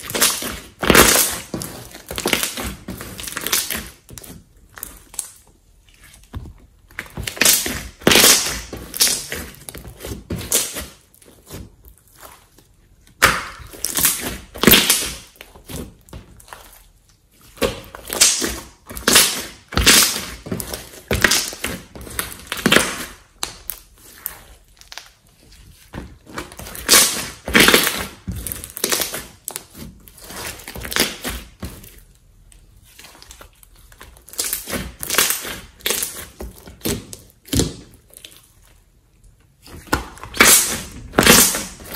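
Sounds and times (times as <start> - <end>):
slime squelching: 0.0 - 41.9.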